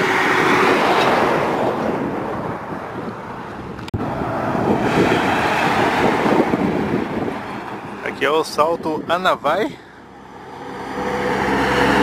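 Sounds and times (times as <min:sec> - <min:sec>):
trucks passing on highway: 0:00.0 - 0:12.0.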